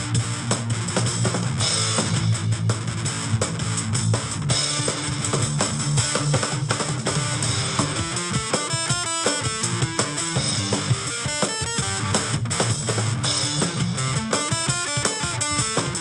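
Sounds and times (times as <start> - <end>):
drum kit beat: 0.0 - 16.0
electric guitar riff: 0.0 - 16.0.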